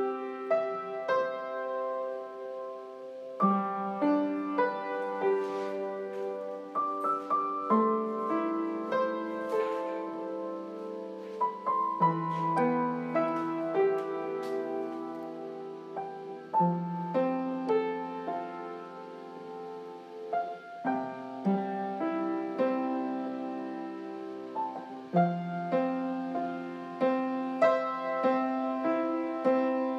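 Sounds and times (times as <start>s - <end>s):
gentle piano music: 0.0s - 29.9s.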